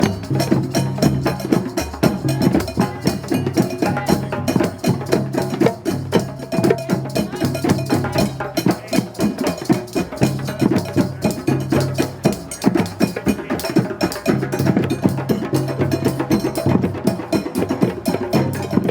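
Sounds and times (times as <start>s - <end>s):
cowbell knocking: 0.0s - 18.9s
hand drums playing rhythm: 0.0s - 18.9s.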